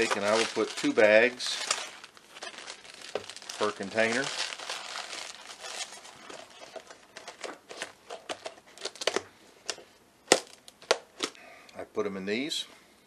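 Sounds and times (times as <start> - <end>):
plastic bags crinkling: 0.0 - 11.4.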